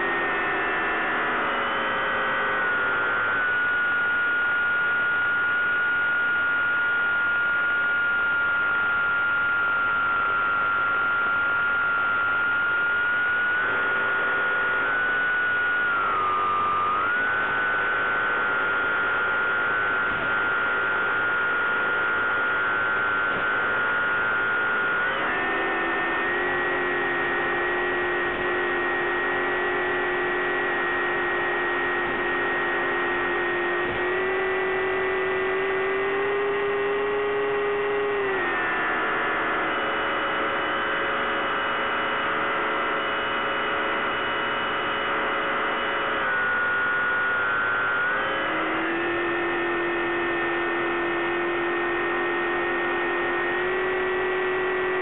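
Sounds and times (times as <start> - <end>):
model plane motor humming: 0.0 - 40.6, 46.0 - 55.0.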